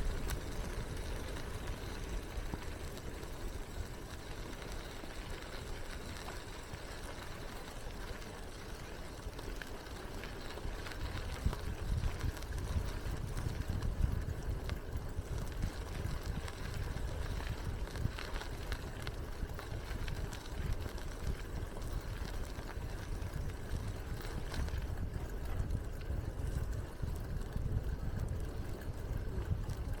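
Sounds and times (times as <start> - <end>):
tyres rumbling on path: 0.0 - 30.0.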